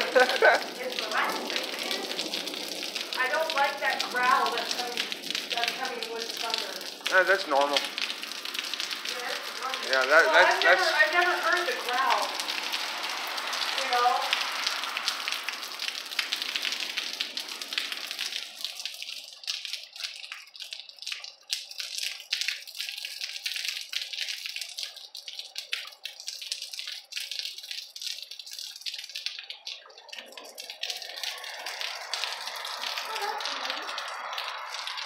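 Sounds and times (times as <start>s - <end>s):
rain falling: 0.0s - 35.0s
water drips: 0.0s - 35.0s.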